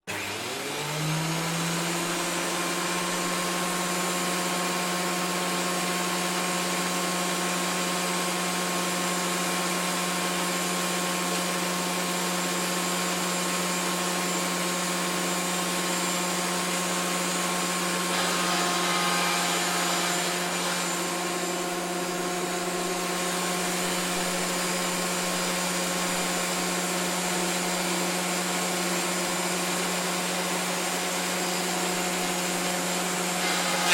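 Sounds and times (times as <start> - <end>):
electric planer motor humming: 0.0 - 33.9.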